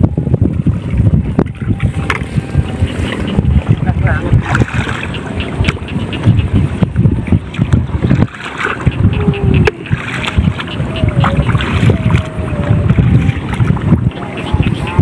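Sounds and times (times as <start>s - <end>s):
wind buffeting microphone: 0.0s - 15.0s
feet wading through muddy water: 1.5s - 6.4s, 7.0s - 15.0s.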